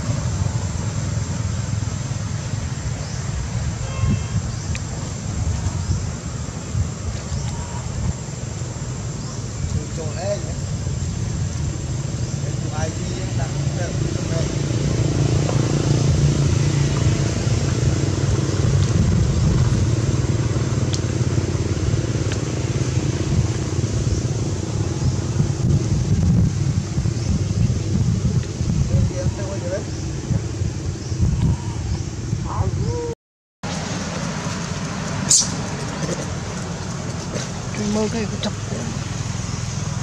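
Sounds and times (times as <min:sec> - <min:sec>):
outdoor background rumble: 0:00.0 - 0:40.0
vehicle engine running: 0:04.4 - 0:31.1, 0:33.6 - 0:40.0.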